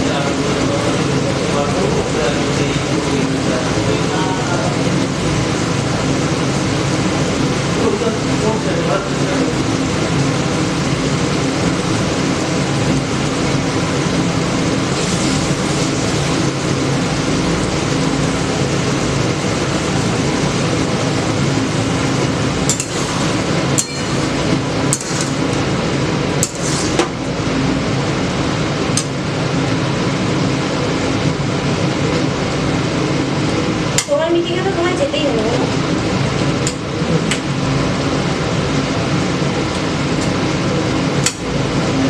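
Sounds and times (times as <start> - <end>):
steady whooshing hum: 0.0 - 42.0.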